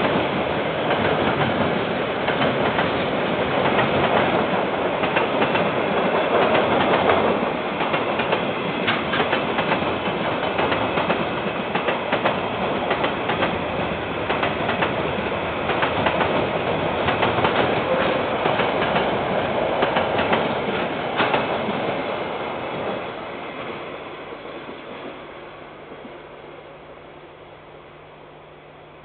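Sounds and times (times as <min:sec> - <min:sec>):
train wheels clicking over rails: 0:00.0 - 0:25.2.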